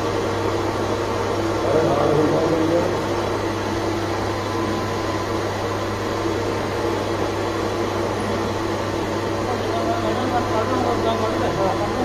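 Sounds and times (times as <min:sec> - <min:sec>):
lathe motor humming: 0:00.0 - 0:12.0.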